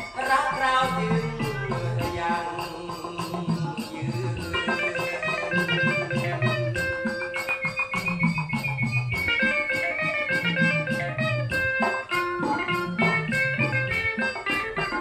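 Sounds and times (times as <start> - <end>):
plucked guitar: 0.0 - 15.0
shaker beat: 0.0 - 15.0.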